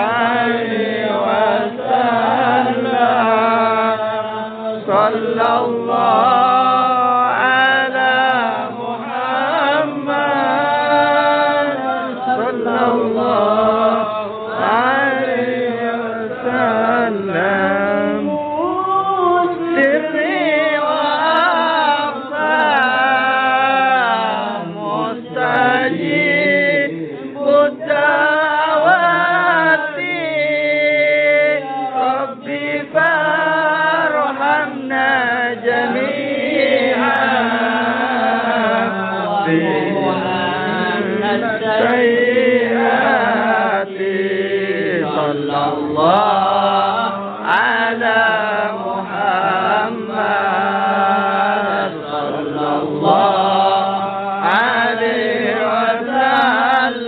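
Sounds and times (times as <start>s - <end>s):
man singing into a microphone: 0.0s - 57.0s
men chanting devotional song: 0.0s - 57.0s.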